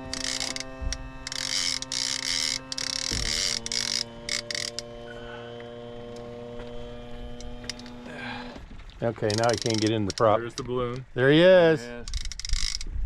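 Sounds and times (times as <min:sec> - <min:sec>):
fishing reel ratcheting: 0:00.0 - 0:08.1, 0:09.1 - 0:11.1, 0:12.0 - 0:13.0
outboard motor humming: 0:00.0 - 0:12.8.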